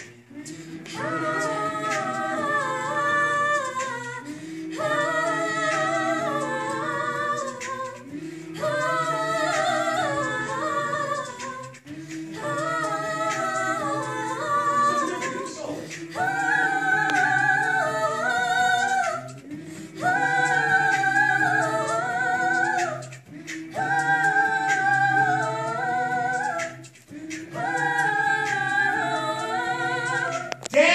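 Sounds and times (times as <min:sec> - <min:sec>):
vocal group singing in harmony: 0:00.0 - 0:30.9.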